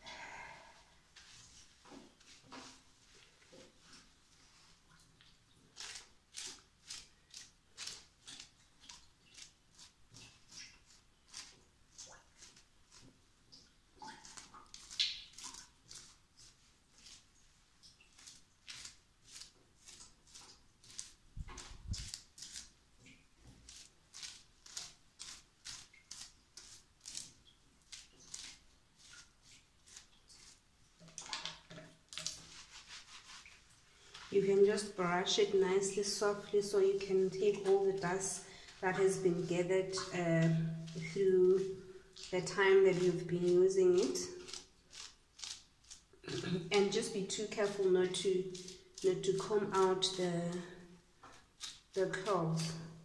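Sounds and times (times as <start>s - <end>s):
brush stroking wet hair: 1.2s - 46.1s, 46.7s - 50.6s.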